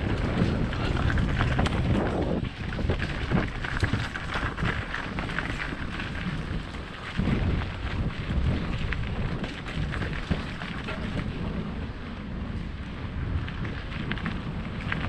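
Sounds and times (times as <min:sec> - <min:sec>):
bike knocks and rattles: 0:00.0 - 0:15.0
bike tyres on dirt trail: 0:00.0 - 0:15.0
wind rumbling on microphone: 0:00.0 - 0:15.0.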